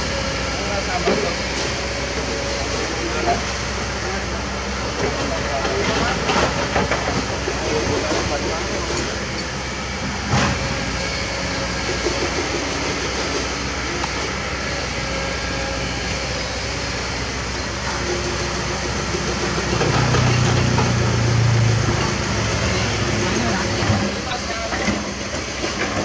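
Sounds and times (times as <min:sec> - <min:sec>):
deep engine hum: 0:00.0 - 0:25.6
diesel engines running: 0:00.0 - 0:26.0.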